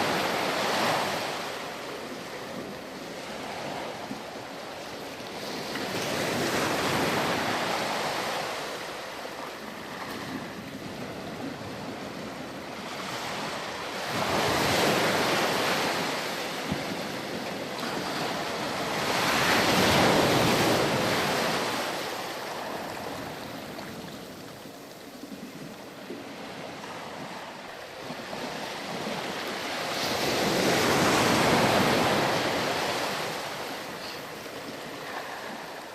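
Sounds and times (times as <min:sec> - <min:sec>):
ocean waves breaking: 0:00.0 - 0:35.9.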